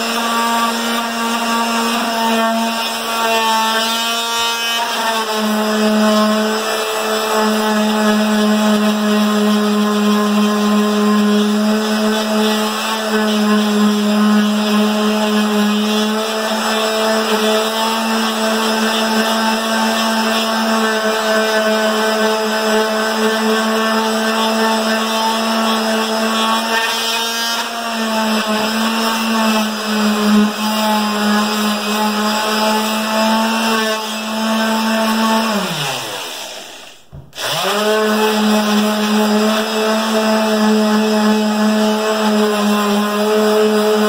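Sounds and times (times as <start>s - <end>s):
electric palm sander running: 0.0s - 44.0s.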